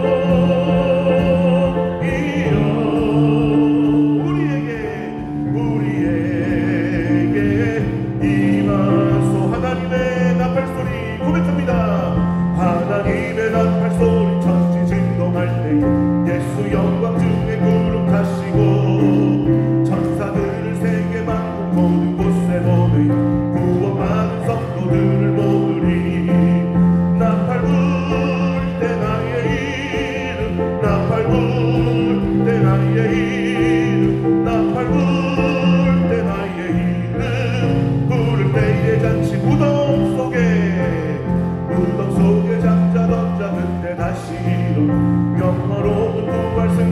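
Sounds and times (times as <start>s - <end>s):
drums: 0.0s - 46.9s
keyboard: 0.0s - 46.9s
person singing with vibrato: 0.0s - 46.9s.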